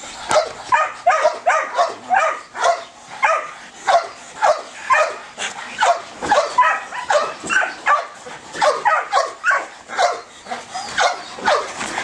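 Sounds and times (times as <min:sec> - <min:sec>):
dog yelping barks: 0:00.3 - 0:05.2, 0:05.8 - 0:11.8.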